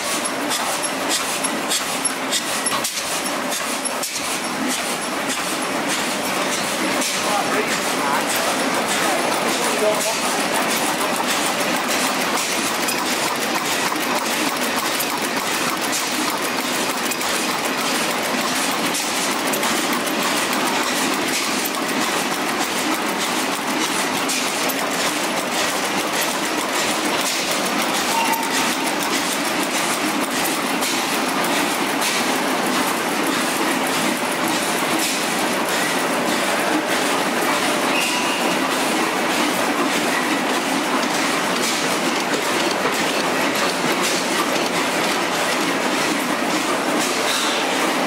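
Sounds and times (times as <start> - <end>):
stationary engines clattering: 0.0 - 48.0.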